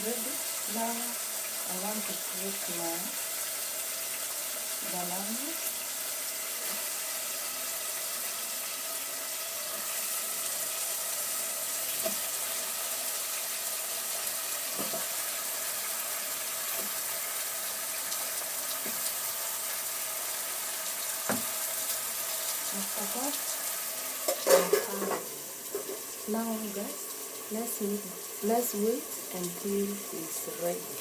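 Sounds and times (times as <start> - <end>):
sauce sizzling in a pot: 0.0 - 31.0.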